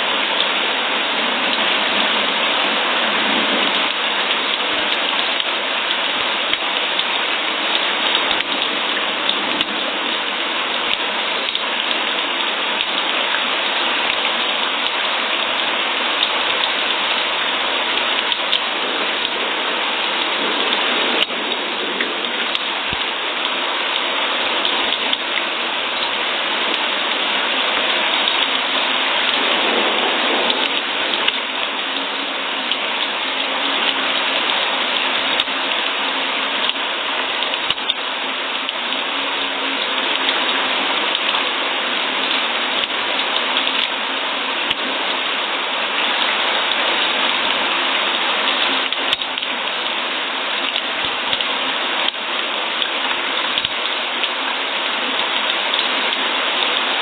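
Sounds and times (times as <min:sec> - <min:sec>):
rain hissing: 0:00.0 - 0:57.0
sharp raindrops: 0:00.0 - 0:57.0.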